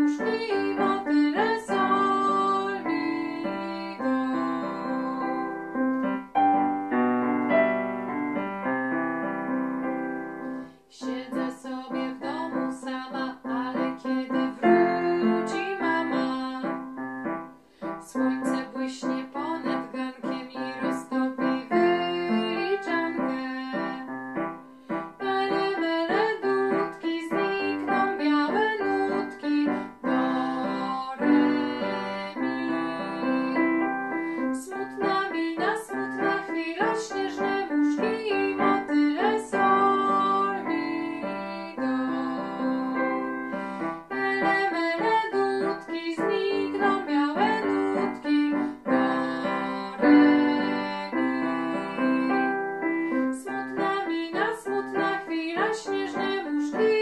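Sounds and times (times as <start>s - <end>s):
woman singing: 0.0s - 5.9s, 10.7s - 24.5s, 25.2s - 57.0s
electronic keyboard piano: 0.0s - 57.0s.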